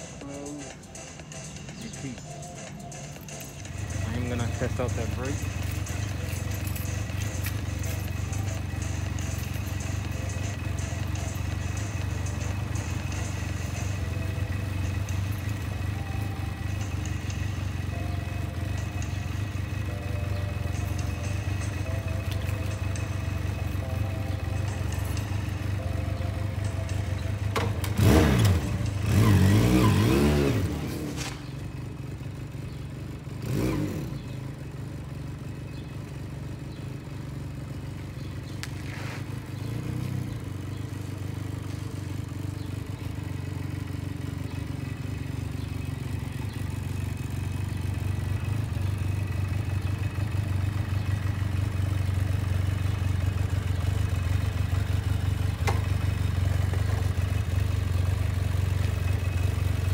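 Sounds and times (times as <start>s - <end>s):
motorcycle engine revving: 2.9s - 59.9s.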